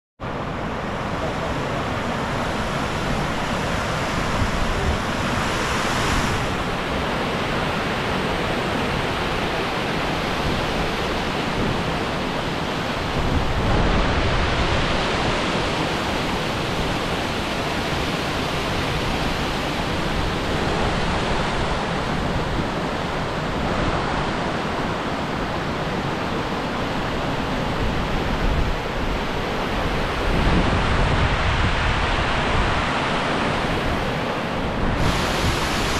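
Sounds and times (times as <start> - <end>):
water rushing over rocks: 0.3 - 27.4, 28.0 - 35.9
wind buffeting microphone: 1.1 - 35.9.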